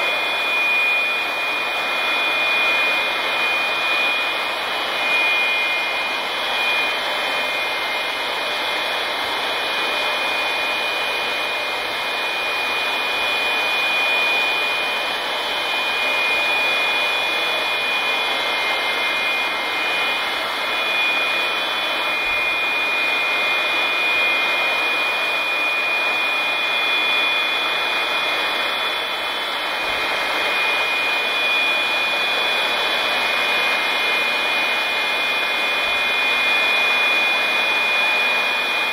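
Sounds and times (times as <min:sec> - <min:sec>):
electric air blowers running: 0:00.0 - 0:38.9.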